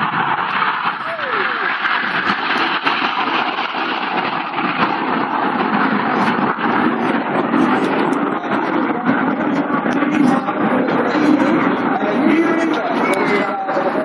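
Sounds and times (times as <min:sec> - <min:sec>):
distant jet rushing: 0:00.0 - 0:14.0.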